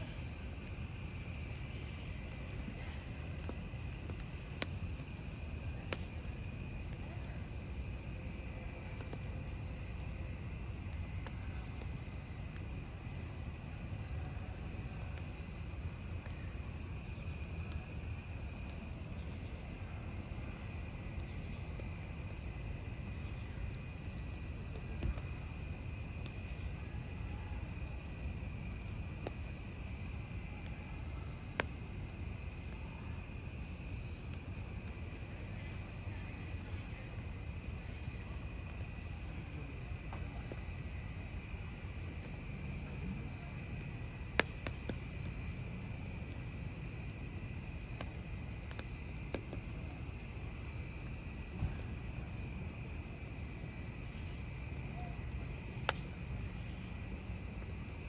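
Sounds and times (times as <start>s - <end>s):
campfire crackling: 0.0s - 58.0s
crickets trilling: 0.0s - 58.0s.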